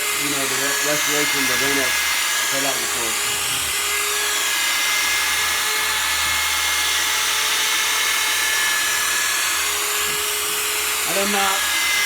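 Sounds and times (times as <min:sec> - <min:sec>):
power sander motor whine: 0:00.0 - 0:12.0.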